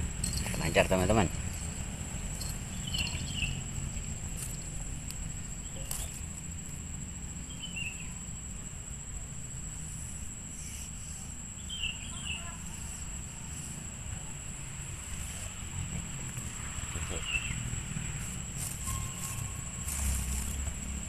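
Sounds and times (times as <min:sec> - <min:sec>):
high-pitched insect drone: 0:00.0 - 0:21.0
low background rumble: 0:00.0 - 0:21.0.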